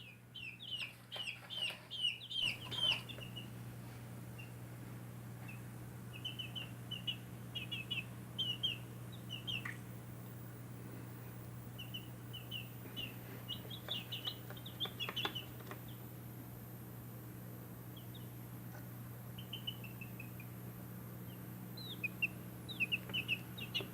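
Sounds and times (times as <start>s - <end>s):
baby chicks peeping: 0.0s - 16.4s, 17.8s - 23.9s
steady low hum: 0.0s - 23.9s.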